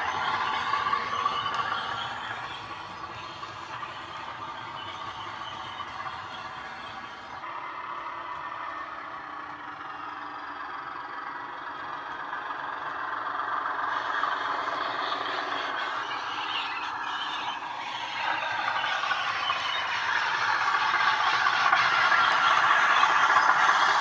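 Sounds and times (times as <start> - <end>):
model diesel engine sound: 0.0 - 24.0
model train running on track: 0.0 - 24.0.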